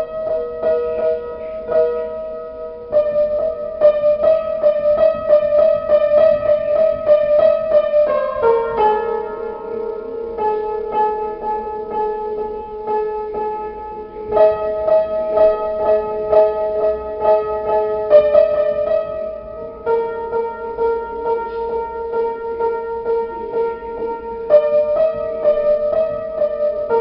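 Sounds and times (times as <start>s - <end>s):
piano repeated notes: 0.0s - 27.0s.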